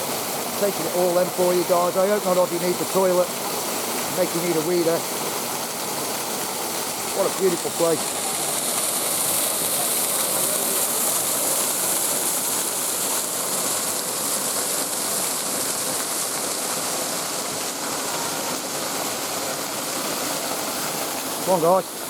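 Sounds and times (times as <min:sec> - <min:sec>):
water pouring over rocks: 0:00.0 - 0:22.0.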